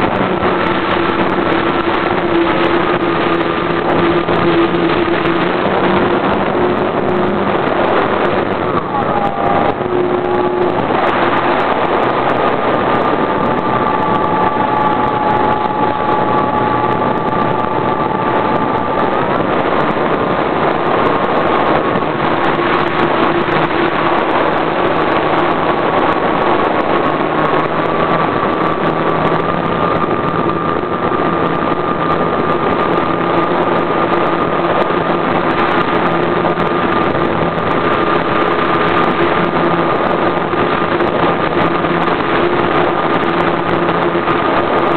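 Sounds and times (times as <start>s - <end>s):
model airplane engine running: 0.0s - 44.9s
rushing air: 0.0s - 44.9s.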